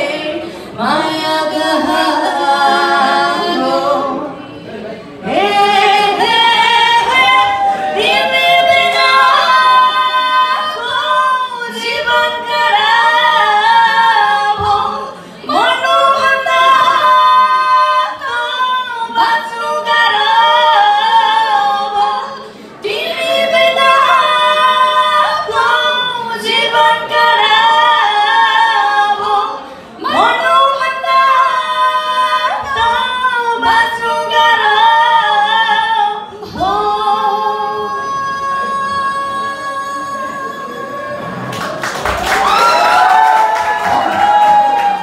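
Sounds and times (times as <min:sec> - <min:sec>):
women singing: 0:00.0 - 0:41.7.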